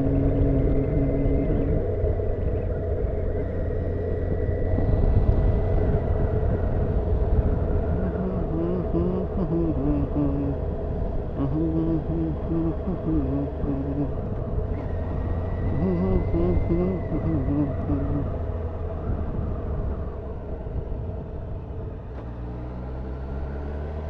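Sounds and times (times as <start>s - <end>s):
wind noise on microphone: 0.0s - 22.5s
motorcycle engine rumble: 0.0s - 24.0s.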